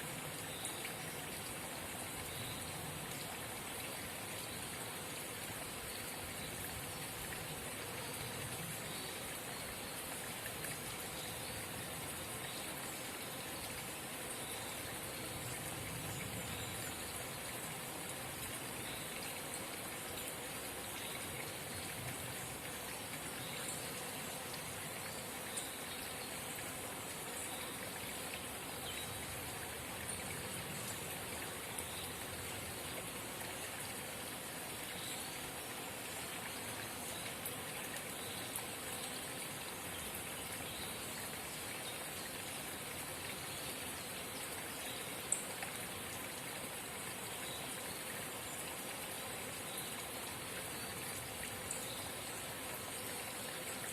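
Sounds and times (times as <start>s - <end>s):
spring water trickling: 0.0s - 53.9s.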